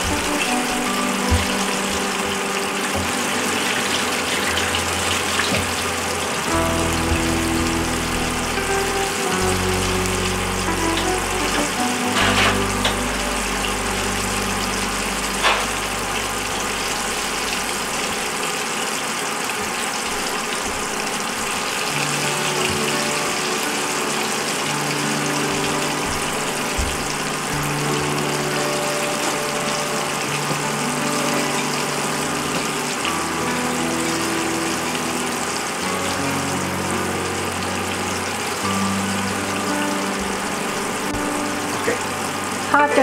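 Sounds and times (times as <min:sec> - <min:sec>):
deep-frying oil sizzling: 0:00.0 - 0:43.0.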